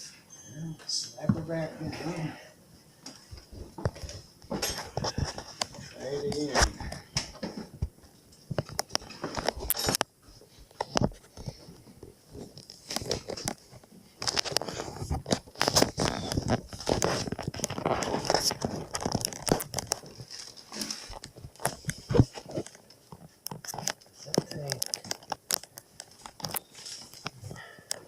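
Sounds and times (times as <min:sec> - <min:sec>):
rustling: 0:01.0 - 0:28.0.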